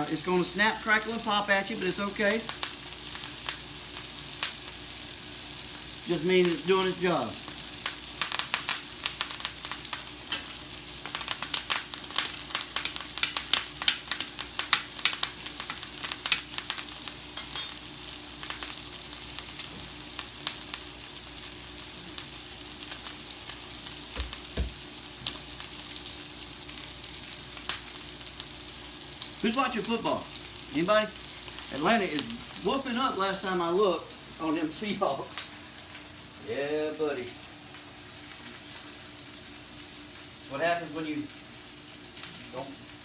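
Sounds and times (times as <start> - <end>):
hot fat crackling and popping: 0.0 - 39.6
steaks sizzling in a skillet: 0.0 - 43.0.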